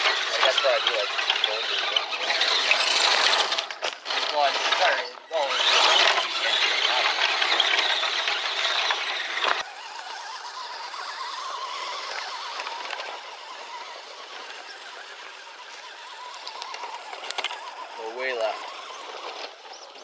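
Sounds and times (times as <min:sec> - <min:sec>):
electric motor and gears whining: 0:00.0 - 0:20.0.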